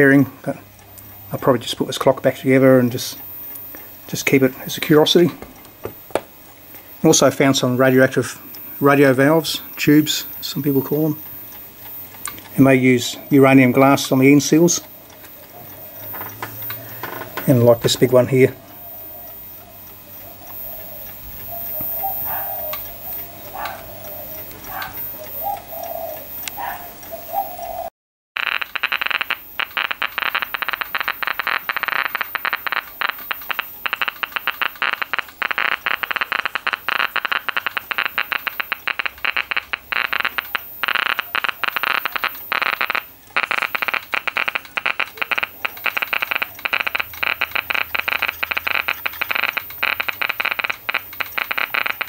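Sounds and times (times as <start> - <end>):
geiger counter clicking: 0.0 - 27.6, 28.4 - 52.0.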